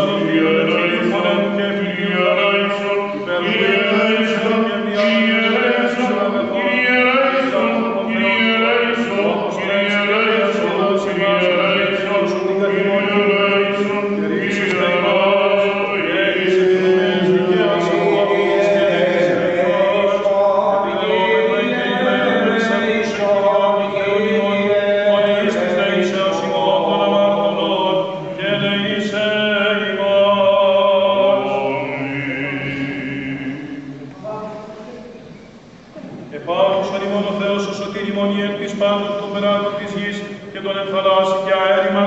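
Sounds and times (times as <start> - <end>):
voices chanting a slow hymn: 0.0 - 42.0.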